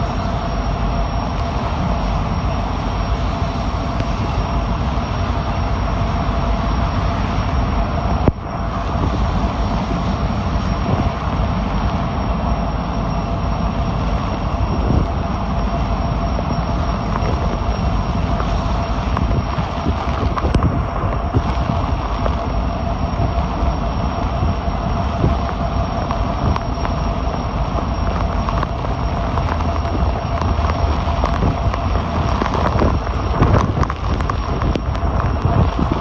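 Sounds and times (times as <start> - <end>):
heavy rain: 0.0 - 36.0
strong wind buffeting microphone: 0.0 - 36.0.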